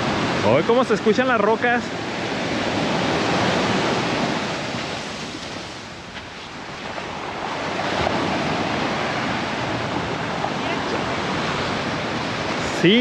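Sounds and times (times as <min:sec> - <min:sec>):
surf washing over stony shore: 0:00.0 - 0:13.0.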